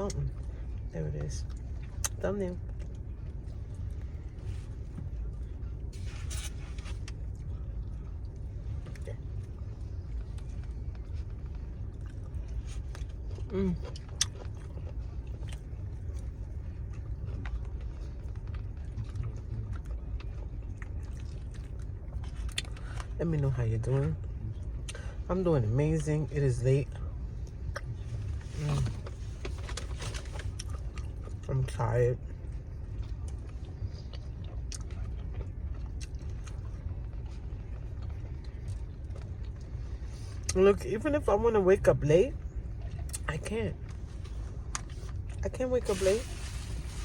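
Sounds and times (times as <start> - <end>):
person chewing food: 0.0 - 23.2, 27.3 - 31.5, 32.3 - 40.6, 42.4 - 45.4
low car cabin rumble: 0.0 - 47.0.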